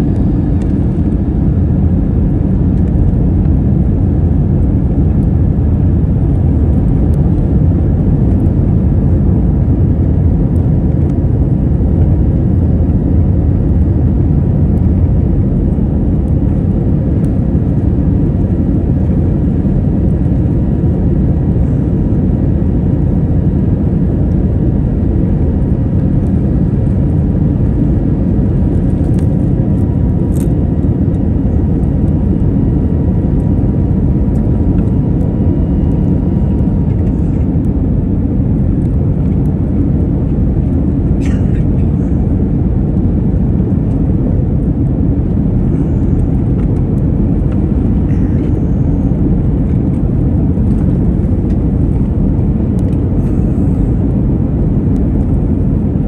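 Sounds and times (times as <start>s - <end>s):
faint steady whine: 0.0s - 56.0s
jet cabin engine rumble: 0.0s - 56.0s.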